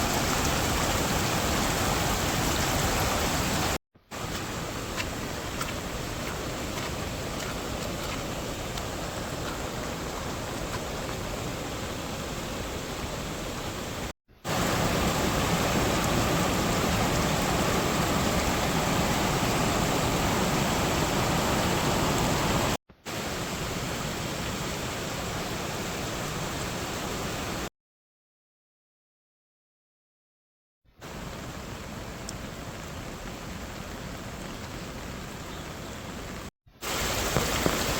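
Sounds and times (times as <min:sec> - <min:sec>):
heavy rain hissing: 0:00.0 - 0:27.7, 0:31.0 - 0:37.9.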